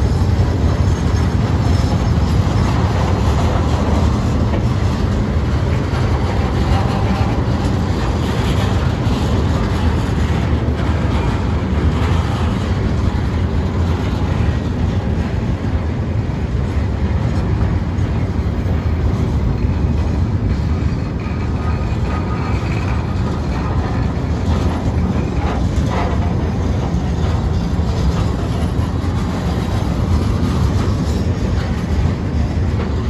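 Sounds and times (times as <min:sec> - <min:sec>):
freight train wheels on rails: 0:00.0 - 0:33.0.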